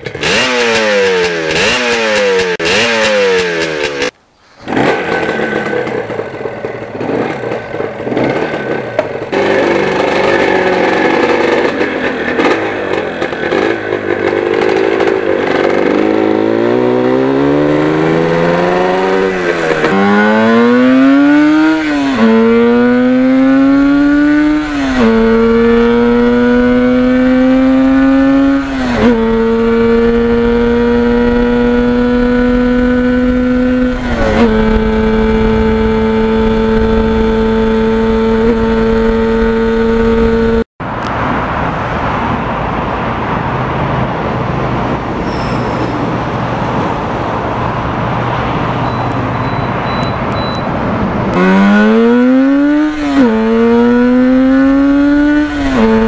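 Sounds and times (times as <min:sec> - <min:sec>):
motorcycle accelerating through gears: 0:00.0 - 0:40.7, 0:51.2 - 0:56.0.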